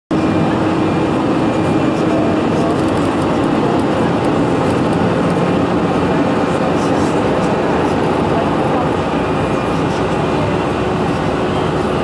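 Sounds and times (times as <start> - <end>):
airliner cabin engine noise: 0.1 - 12.0.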